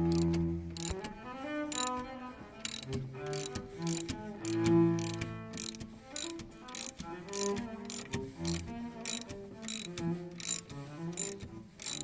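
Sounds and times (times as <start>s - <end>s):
socket ratchet clicking: 0.0s - 12.0s
solo cello music: 0.0s - 12.0s.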